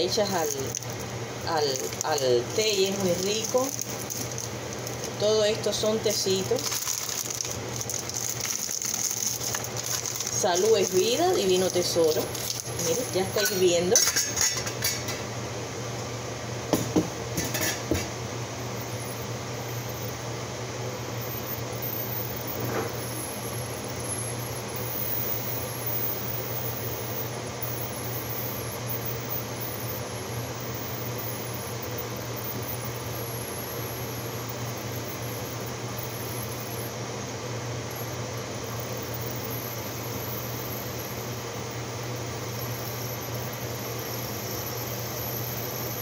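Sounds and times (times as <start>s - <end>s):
pot of water boiling: 0.0s - 46.0s.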